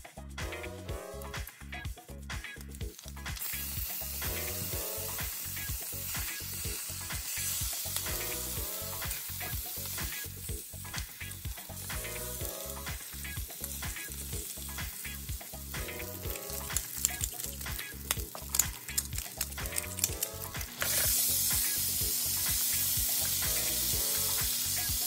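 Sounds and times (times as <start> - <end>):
fish sizzling in a frying pan: 2.6 - 25.0.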